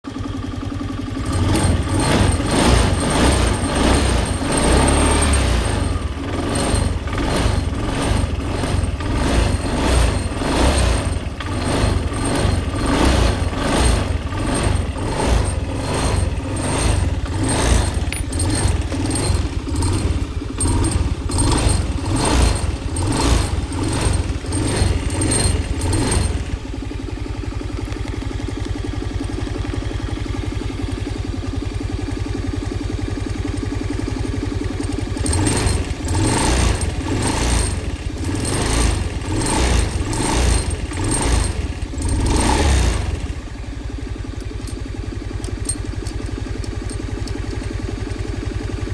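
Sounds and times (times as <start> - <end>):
engine running: 0.1 - 48.9.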